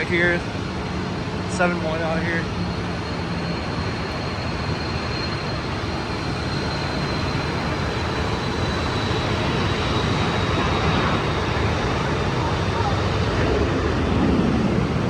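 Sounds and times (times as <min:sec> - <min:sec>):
aircraft turbine whine: 0:00.0 - 0:15.0.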